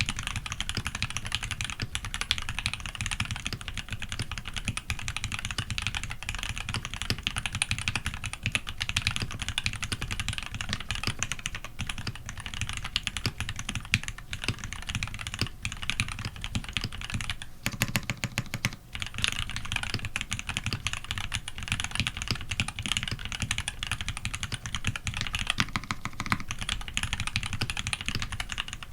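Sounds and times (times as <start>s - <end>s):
fast typing on mechanical keyboard: 0.0s - 28.9s.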